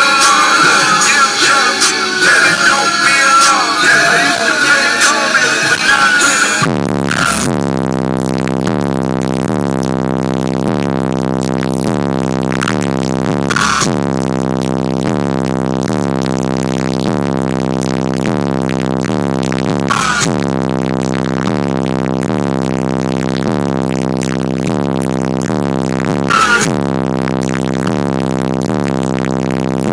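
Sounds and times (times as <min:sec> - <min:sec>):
synthesized bass line on subwoofers: 0:00.0 - 0:29.9.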